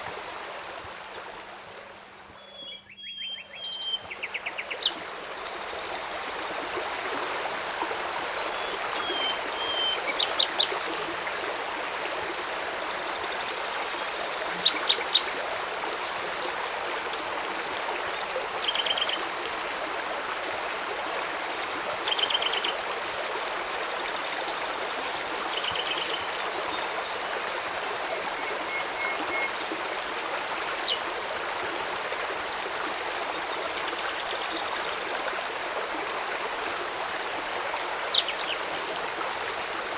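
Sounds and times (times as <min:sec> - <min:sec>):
river flowing: 0:03.5 - 0:39.9.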